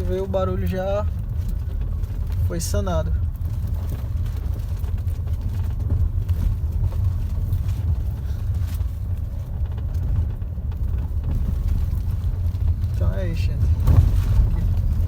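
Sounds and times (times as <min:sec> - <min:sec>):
tyre road rumble in car cabin: 0:00.0 - 0:15.0.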